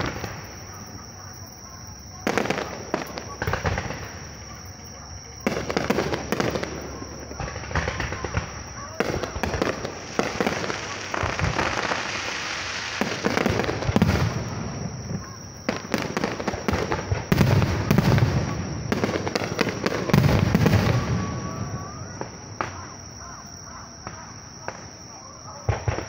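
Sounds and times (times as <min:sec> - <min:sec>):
firework crackling: 0:00.0 - 0:23.3.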